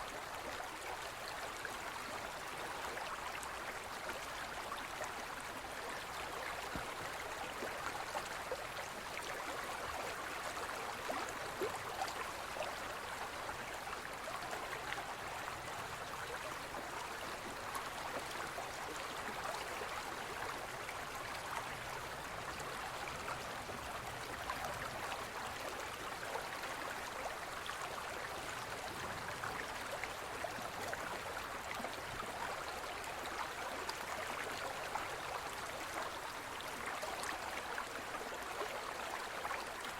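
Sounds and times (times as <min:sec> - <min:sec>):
stream flowing with splashes: 0:00.0 - 0:39.9.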